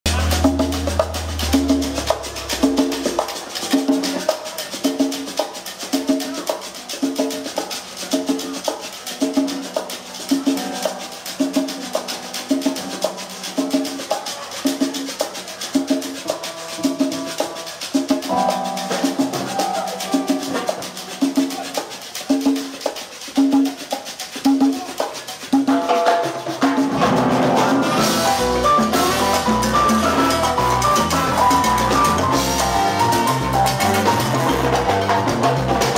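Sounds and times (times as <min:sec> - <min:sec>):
bass and drums: 0:00.0 - 0:16.2, 0:16.8 - 0:35.9
light percussion: 0:00.0 - 0:35.9
live band playing cumbia: 0:00.0 - 0:35.9.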